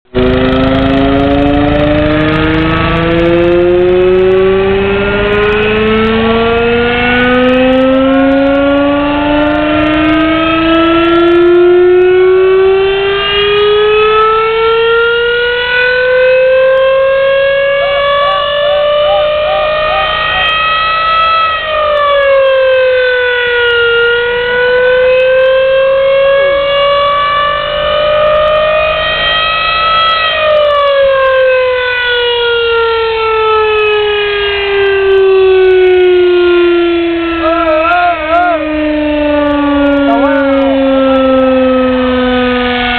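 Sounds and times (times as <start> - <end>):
siren wailing: 0.1 - 42.9.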